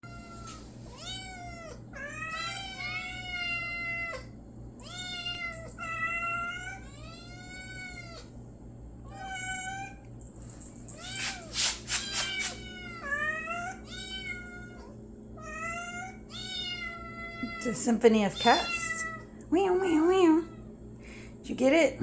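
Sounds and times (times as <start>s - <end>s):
cats meowing: 0.0s - 8.3s, 9.1s - 10.0s, 10.9s - 19.3s.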